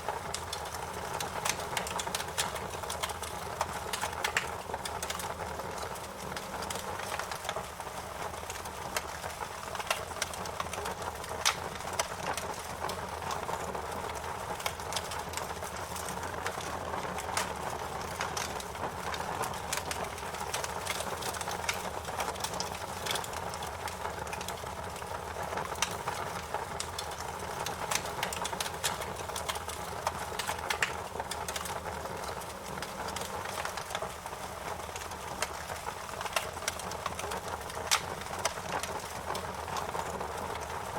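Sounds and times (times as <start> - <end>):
campfire crackling and popping: 0.1 - 40.9.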